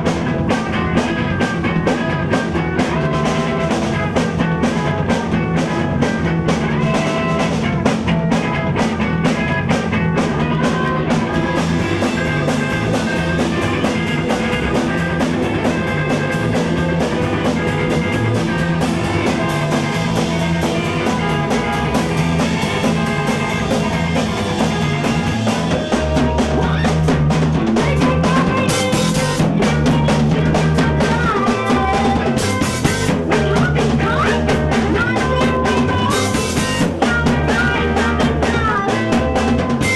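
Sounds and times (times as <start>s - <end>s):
drum kit fast beat: 0.0s - 39.9s
rock band playing: 0.0s - 39.9s.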